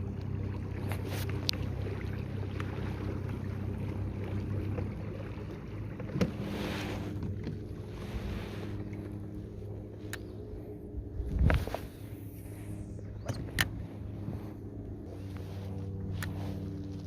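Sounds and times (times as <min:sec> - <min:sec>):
electric motor hum: 0:00.0 - 0:17.0.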